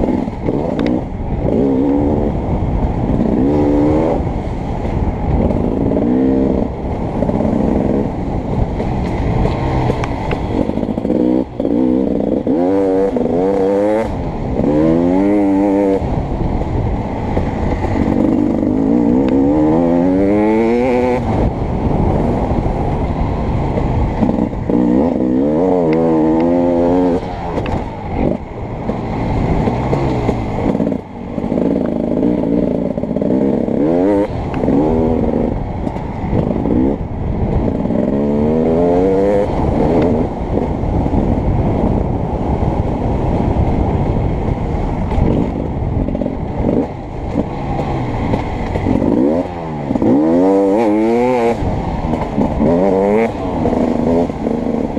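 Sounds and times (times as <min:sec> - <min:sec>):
dirt bike engine revving: 0:00.0 - 0:02.5, 0:03.1 - 0:04.6, 0:05.3 - 0:16.1, 0:17.1 - 0:37.0, 0:37.6 - 0:41.2, 0:45.2 - 0:54.9.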